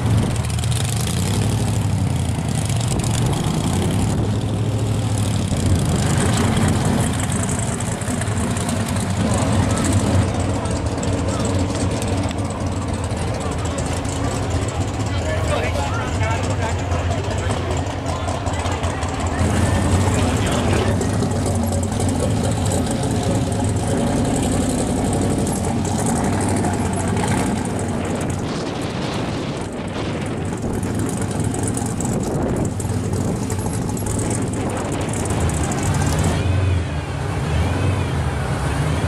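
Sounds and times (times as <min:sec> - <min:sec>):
car engine rumbling: 0:00.0 - 0:39.0
second car engine rumbling: 0:00.0 - 0:39.0.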